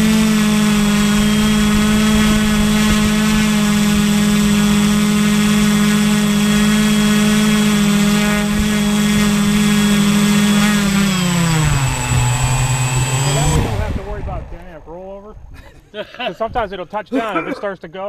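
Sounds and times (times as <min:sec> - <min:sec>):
drone motors humming: 0:00.0 - 0:15.4.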